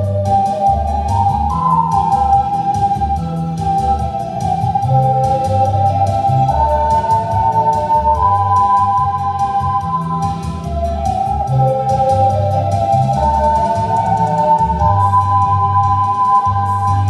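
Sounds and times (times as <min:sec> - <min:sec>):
ocarina ensemble melody: 0:00.0 - 0:17.0
pulsing low bass: 0:00.0 - 0:17.0.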